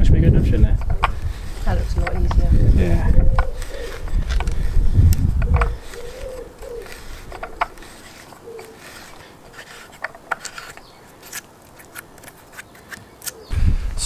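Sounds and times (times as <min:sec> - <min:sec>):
auger bit creaking in wood: 0:00.0 - 0:13.5.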